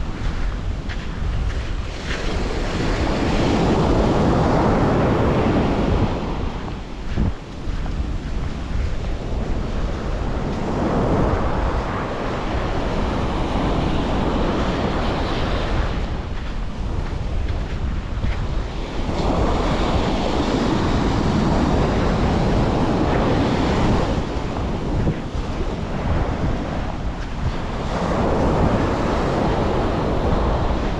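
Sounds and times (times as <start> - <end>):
sea waves washing onto shore: 0.0 - 30.9
wind rumbling on microphone: 0.0 - 30.9.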